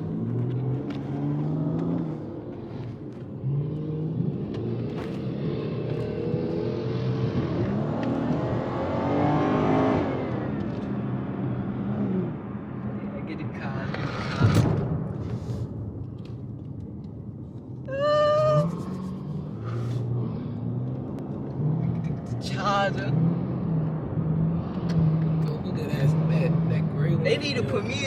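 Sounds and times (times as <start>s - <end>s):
car engine revving: 0.0s - 15.0s, 18.6s - 28.0s.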